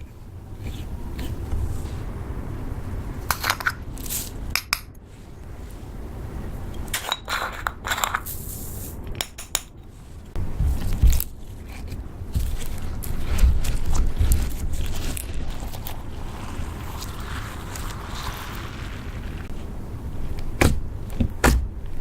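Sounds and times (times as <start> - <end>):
steady low rumble: 0.0 - 7.0, 7.7 - 22.0.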